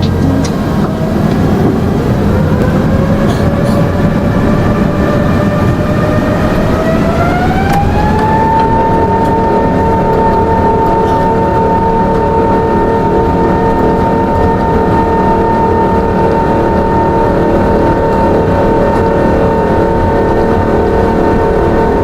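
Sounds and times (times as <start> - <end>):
jet engines spooling up: 0.0 - 22.0.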